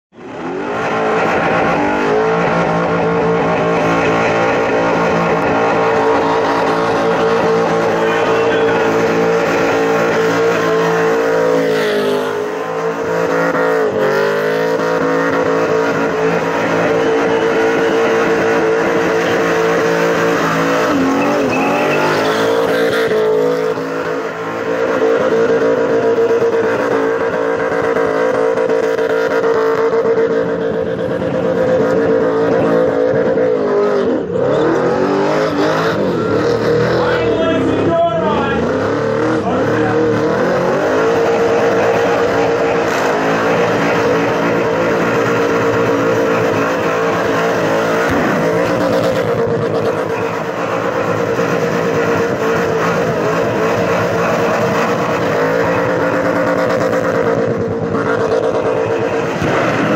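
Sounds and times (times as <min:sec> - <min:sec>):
car engine revving high: 0:00.1 - 0:59.9.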